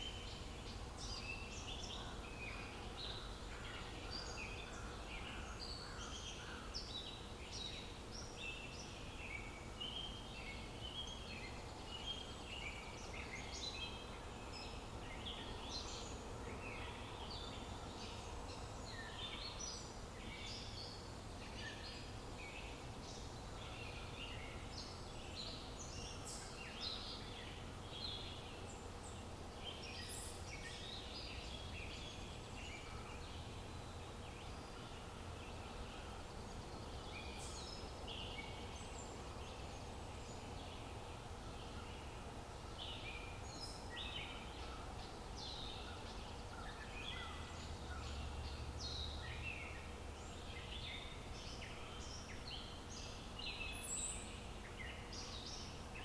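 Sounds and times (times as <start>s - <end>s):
faint outdoor hum: 0.0s - 56.0s
songbirds chirping: 0.0s - 56.0s.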